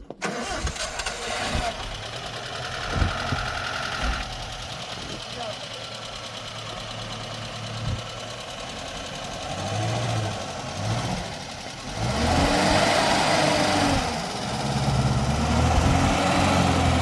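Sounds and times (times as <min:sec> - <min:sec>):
small engine idling and revving: 0:00.2 - 0:17.0.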